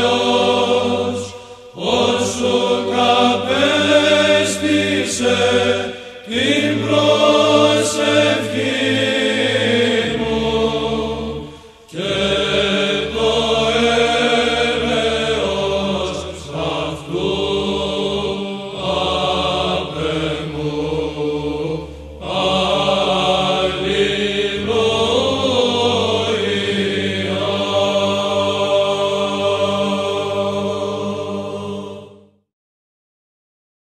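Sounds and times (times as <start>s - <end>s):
low held vocal drone: 0.0s - 32.3s
male choir chanting: 0.0s - 32.4s.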